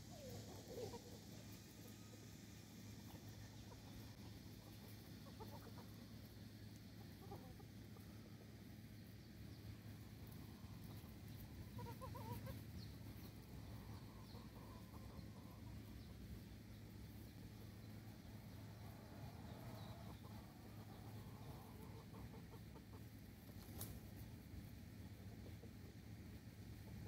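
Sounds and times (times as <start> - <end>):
chickens clucking: 0.0 - 27.0
steady low hum: 0.0 - 27.0.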